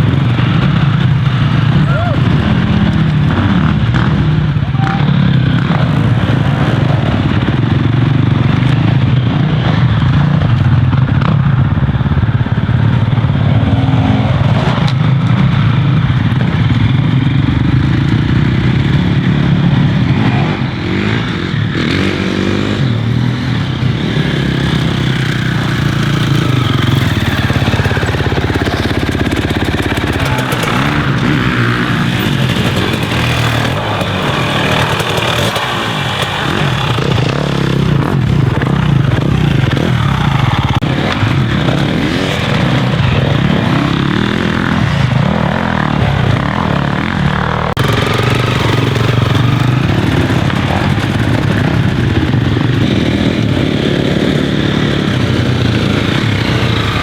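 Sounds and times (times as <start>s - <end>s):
dirt bike engine revving: 0.0s - 11.8s, 12.6s - 57.0s.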